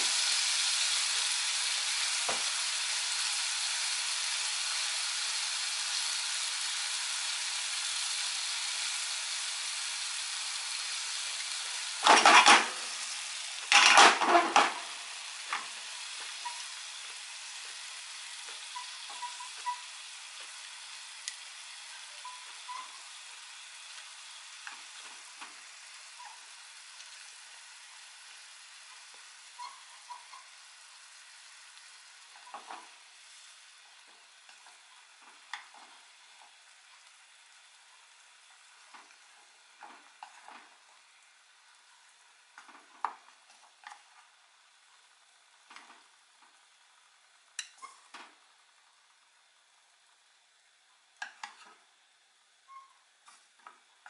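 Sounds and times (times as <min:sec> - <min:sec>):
stirring rushes of sizzle: 0:00.0 - 0:54.0
vegetables sizzling in a frying pan: 0:00.0 - 0:54.0.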